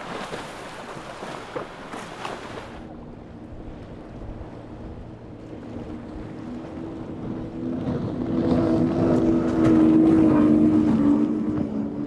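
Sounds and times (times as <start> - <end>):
outboard engines droning: 0.0 - 12.0.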